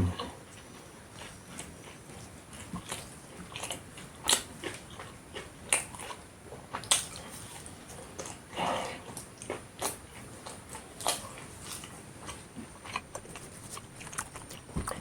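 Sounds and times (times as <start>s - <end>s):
person biting and chewing: 1.2s - 8.4s, 9.4s - 15.0s.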